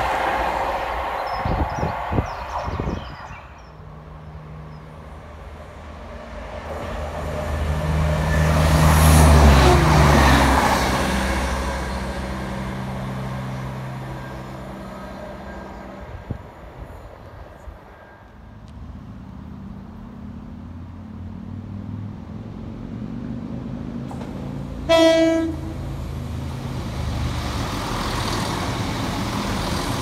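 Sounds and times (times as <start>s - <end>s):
diesel train passing: 0.0s - 30.0s.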